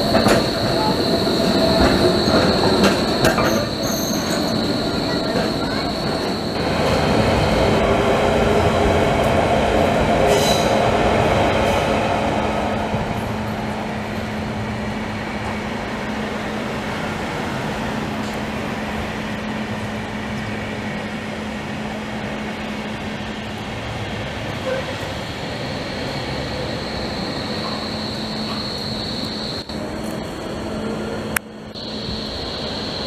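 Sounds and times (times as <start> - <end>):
trains rumbling overhead: 0.0 - 33.0.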